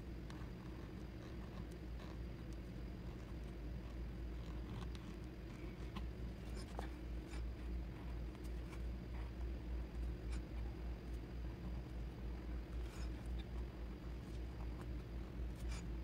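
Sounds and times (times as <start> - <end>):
pen scratching on paper: 0.3 - 2.5, 3.1 - 10.7, 12.7 - 16.0.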